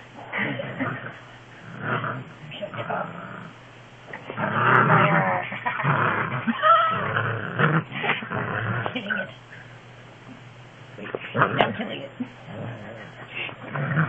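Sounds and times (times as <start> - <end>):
dog play-growling: 0.2 - 9.7, 11.0 - 14.0.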